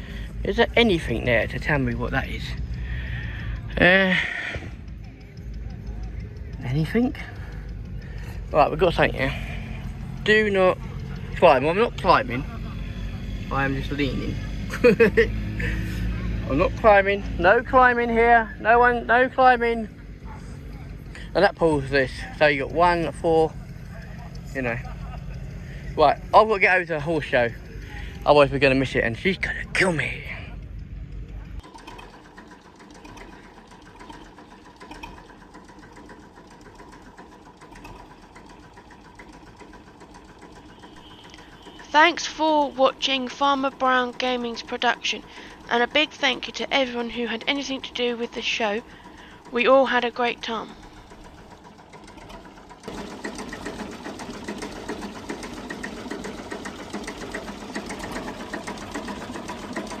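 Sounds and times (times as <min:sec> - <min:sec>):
small engine ticking clatter: 0:00.0 - 1:00.0.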